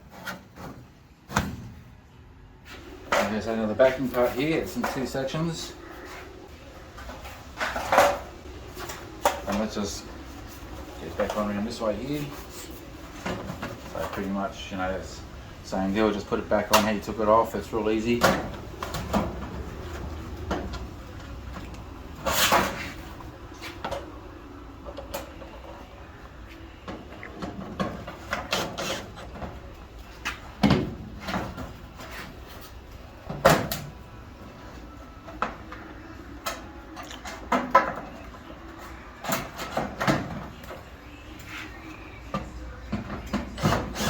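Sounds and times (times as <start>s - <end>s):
dryer parts knocking and rattling: 2.8s - 41.5s, 42.1s - 44.0s.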